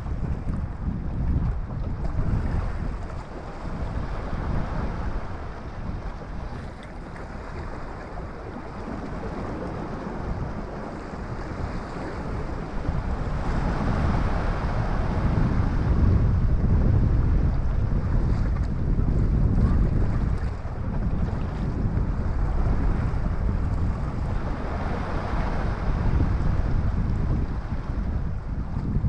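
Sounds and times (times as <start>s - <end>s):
wind gusting across microphone: 0.0s - 29.0s
waves washing against rock: 0.1s - 29.0s.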